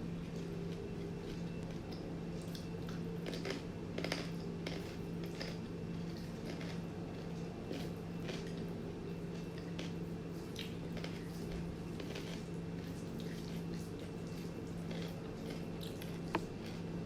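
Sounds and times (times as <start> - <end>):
steady low hum: 0.0 - 17.0
wet chewing: 0.2 - 17.0.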